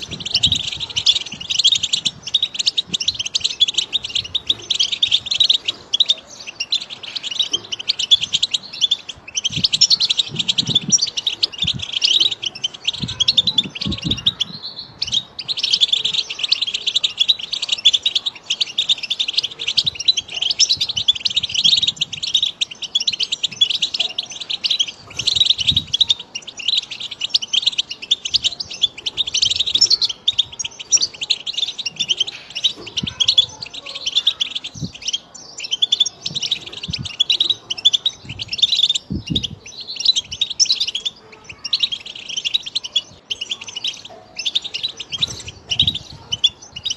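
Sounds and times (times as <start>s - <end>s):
goldfinch twittering song: 0.0s - 46.9s.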